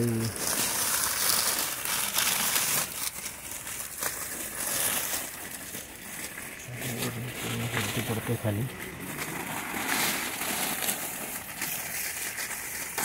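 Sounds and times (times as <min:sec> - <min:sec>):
paper crinkling and tearing: 0:00.0 - 0:13.0.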